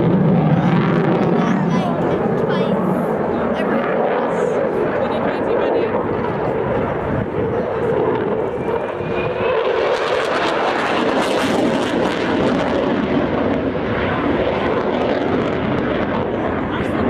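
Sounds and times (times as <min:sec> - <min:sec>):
loud jet engine noise: 0:00.0 - 0:17.0.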